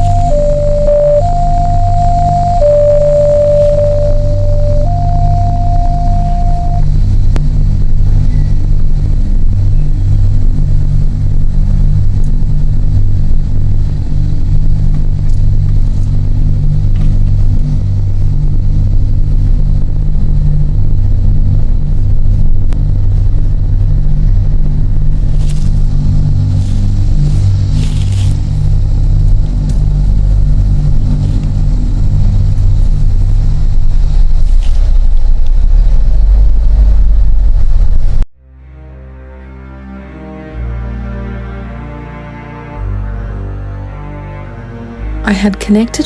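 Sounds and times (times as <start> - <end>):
road rumble: 0.0 - 38.3
car engine drone: 0.0 - 46.0.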